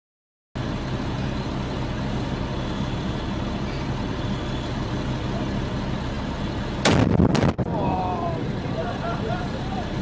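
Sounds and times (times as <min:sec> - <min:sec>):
large vehicle engine idling: 0:00.6 - 0:10.0.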